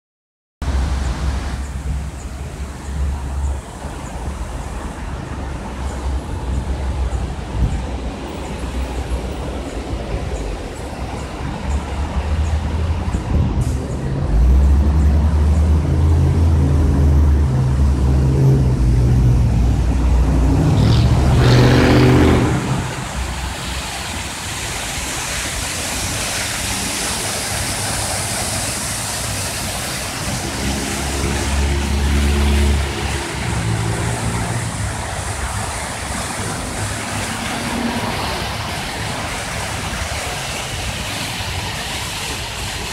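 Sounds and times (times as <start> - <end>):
fountain water jets splashing: 0.6 - 42.9.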